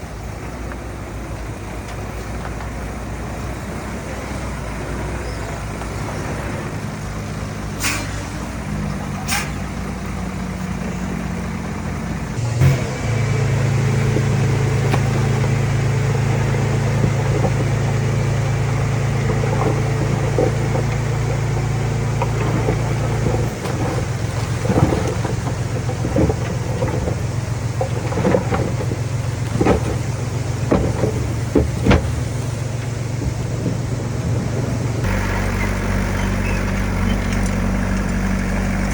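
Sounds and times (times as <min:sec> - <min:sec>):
diesel machinery engine revving: 0:00.0 - 0:38.9.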